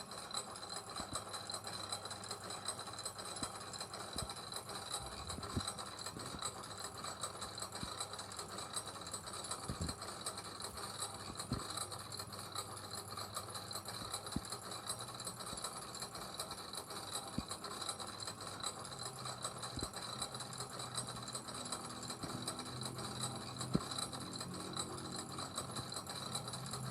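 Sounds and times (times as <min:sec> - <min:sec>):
gears clicking and rattling: 0:00.0 - 0:26.9.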